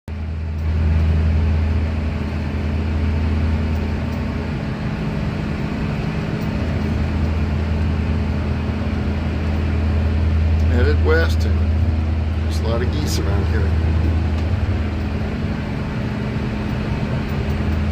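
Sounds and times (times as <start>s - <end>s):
car engine idling: 0.1s - 17.9s.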